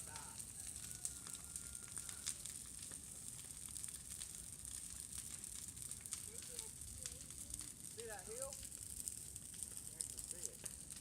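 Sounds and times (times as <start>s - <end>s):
bonfire crackling and roaring: 0.0s - 11.0s.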